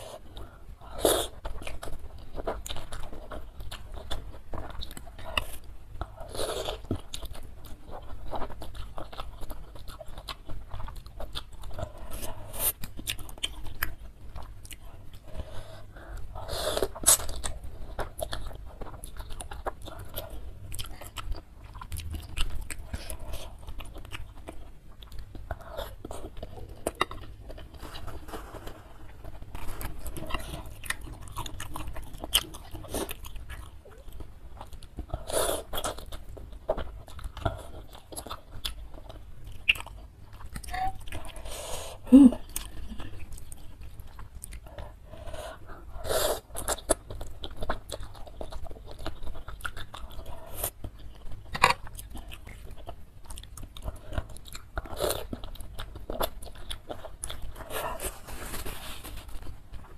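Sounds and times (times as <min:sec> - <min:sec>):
chewing noodles: 0:00.0 - 0:59.9.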